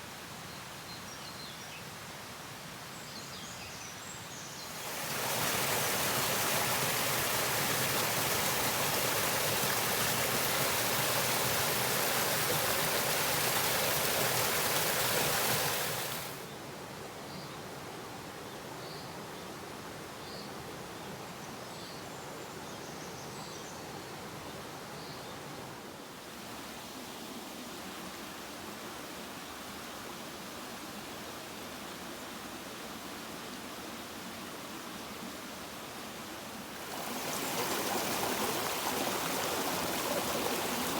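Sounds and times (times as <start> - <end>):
forest stream rushing: 0.0 - 40.9.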